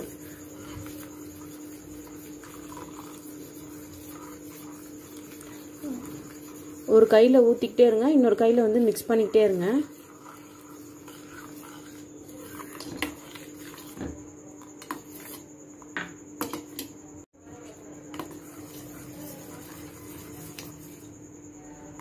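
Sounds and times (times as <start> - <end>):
metal spoon scraping a saucepan: 0.0 - 14.0, 14.7 - 15.5, 18.1 - 21.1.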